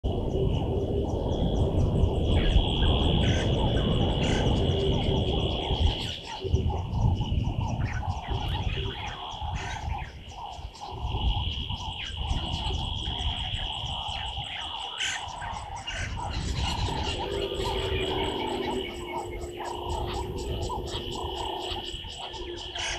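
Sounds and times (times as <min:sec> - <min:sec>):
wind gusting on microphone: 0:00.0 - 0:22.9
bird calls: 0:00.1 - 0:22.9
high insect drone: 0:00.1 - 0:22.9.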